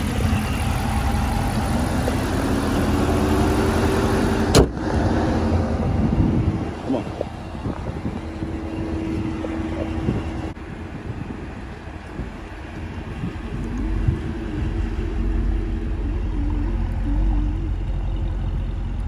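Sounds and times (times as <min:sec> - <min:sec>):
car engine exhaust rumble: 0:00.0 - 0:19.0.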